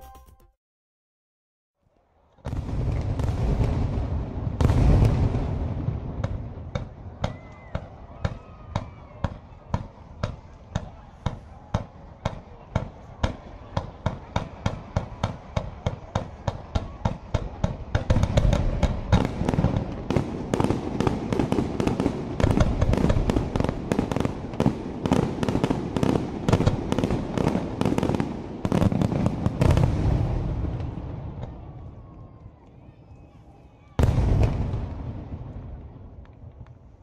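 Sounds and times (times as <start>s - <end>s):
fireworks bangs: 2.4s - 32.5s, 33.9s - 37.0s.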